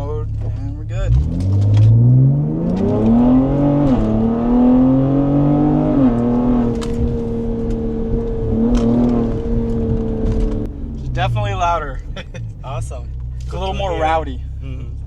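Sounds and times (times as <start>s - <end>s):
car engine accelerating with upshifts: 0.0s - 15.0s.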